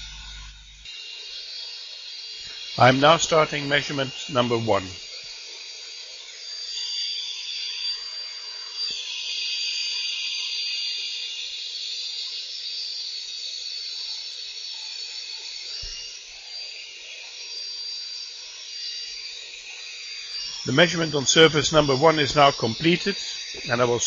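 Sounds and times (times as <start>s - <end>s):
electric mixer motor whine: 0.0s - 24.0s.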